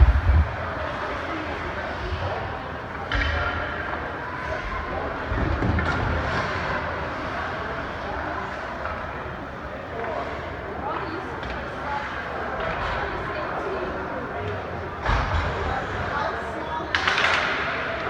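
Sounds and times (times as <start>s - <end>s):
arena crowd chatter: 0.0s - 18.0s.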